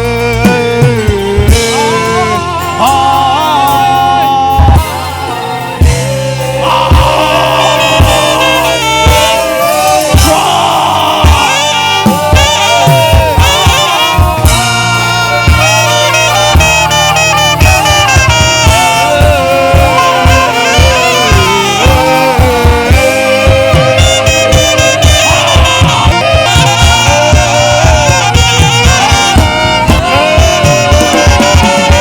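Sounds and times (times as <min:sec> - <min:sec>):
live band playing: 0:00.0 - 0:32.0
saxophone melody: 0:00.0 - 0:32.0.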